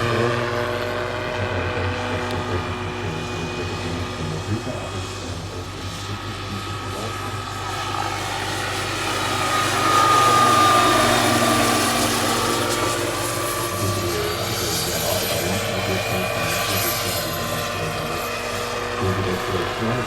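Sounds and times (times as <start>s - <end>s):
helicopter rotor noise: 0.0s - 20.0s
model helicopter turbine whine: 0.0s - 20.0s.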